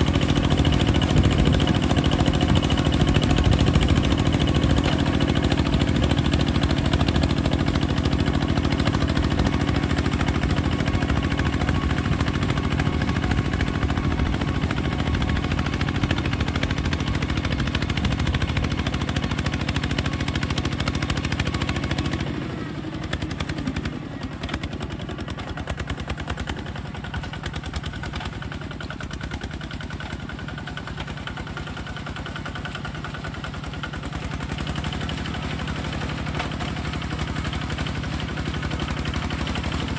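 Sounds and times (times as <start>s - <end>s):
bulldozer engine clattering: 0.0s - 39.9s.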